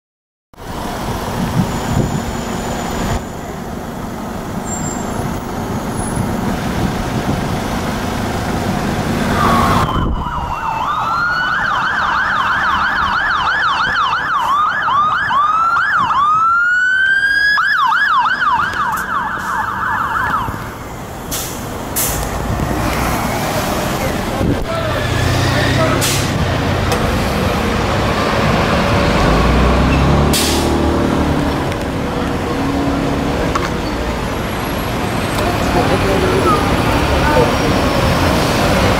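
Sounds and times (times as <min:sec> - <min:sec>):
fire engine siren yelp and wail: 0:00.6 - 0:38.9
road traffic: 0:00.6 - 0:38.9.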